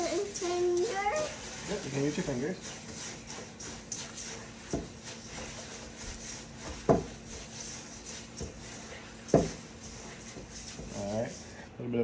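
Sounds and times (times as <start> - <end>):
hands rubbing gritty paste: 0.0 - 11.7.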